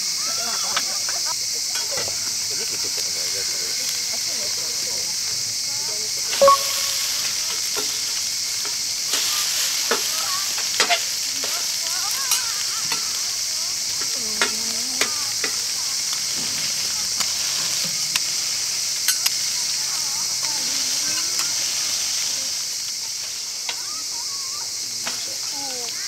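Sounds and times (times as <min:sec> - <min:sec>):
food sizzling on griddle: 0:00.0 - 0:26.0.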